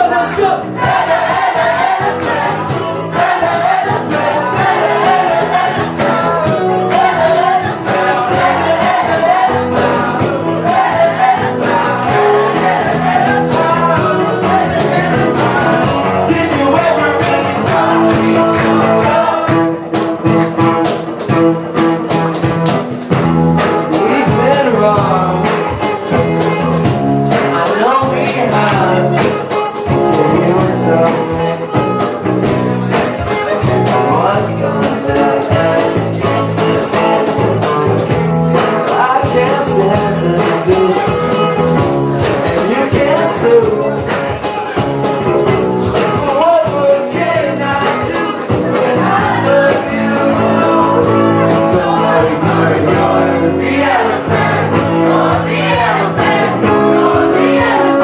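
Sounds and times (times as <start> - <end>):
bass guitar: 0.0 - 58.0
drums: 0.0 - 58.0
guitar: 0.0 - 58.0
keyboards: 0.0 - 58.0.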